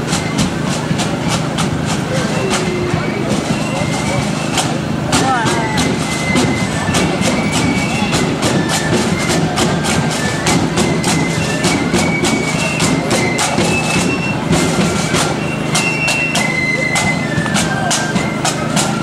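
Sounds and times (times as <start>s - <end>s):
marching band drums: 0.0s - 19.0s
thin high melody: 0.0s - 19.0s.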